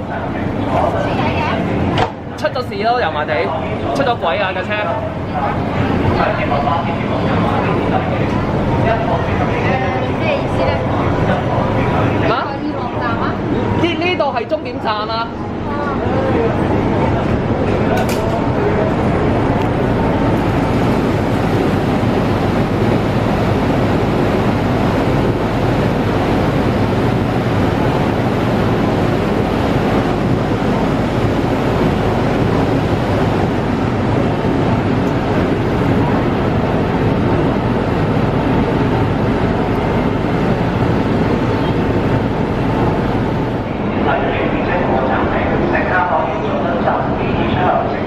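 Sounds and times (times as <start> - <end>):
faint steady whine: 0.0 - 48.0
train rumbling through tunnel: 0.0 - 48.0.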